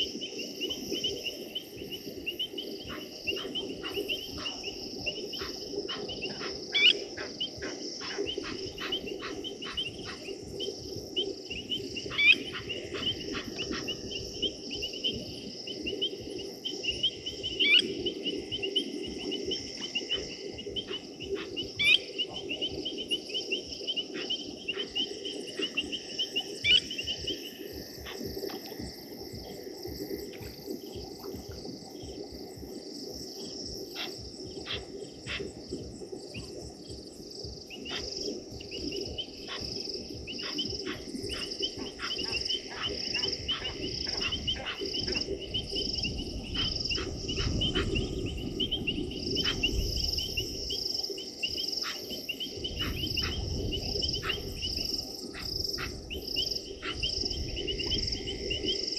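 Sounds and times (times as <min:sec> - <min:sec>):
crickets trilling: 0:00.0 - 0:58.9.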